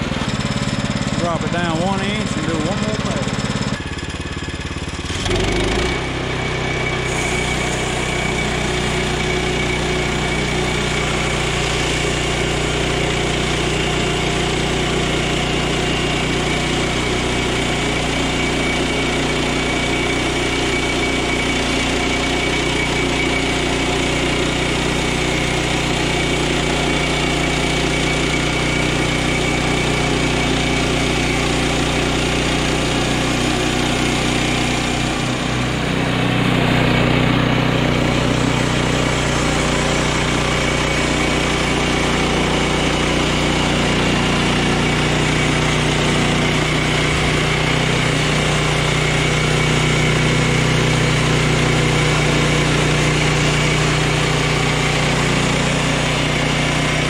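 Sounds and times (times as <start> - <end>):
band saw blade cutting log: 0.0 - 57.0
gas engine running: 0.0 - 57.0.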